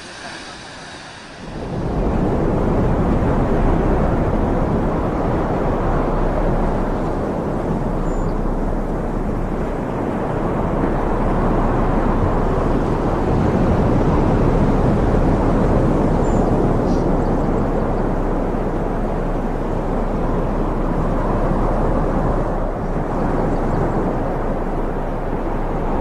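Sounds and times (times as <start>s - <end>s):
rushing flood water roar: 0.0s - 26.0s.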